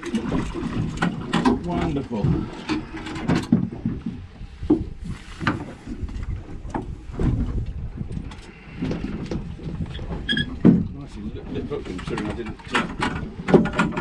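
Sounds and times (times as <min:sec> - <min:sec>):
knocks and clatter on boat: 0:00.0 - 0:14.0
wind buffeting microphone: 0:00.0 - 0:14.0.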